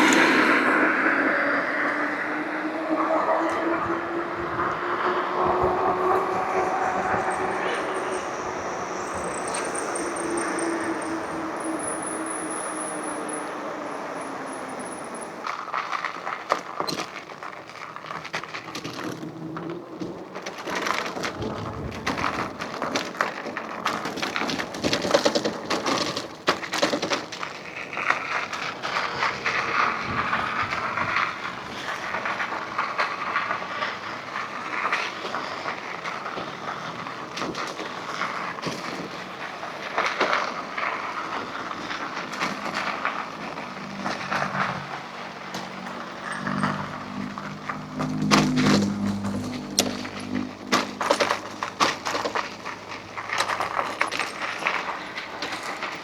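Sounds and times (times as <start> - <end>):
bike riding noise: 0.0 - 56.0
bike rattling clicks and knocks: 6.4 - 56.0.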